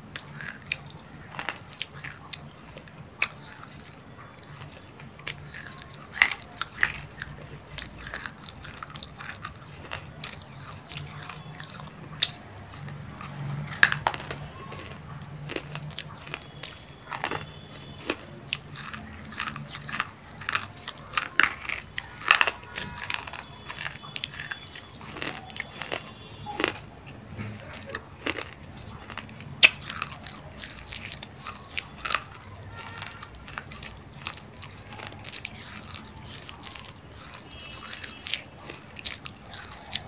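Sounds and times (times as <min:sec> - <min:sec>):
crunchy chewing: 0:00.0 - 0:40.0.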